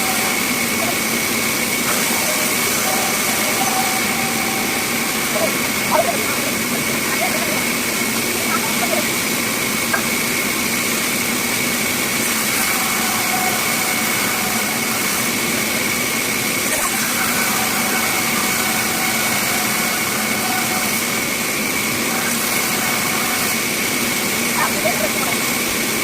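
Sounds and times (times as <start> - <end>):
bandsaw running with high whine: 0.0 - 26.0.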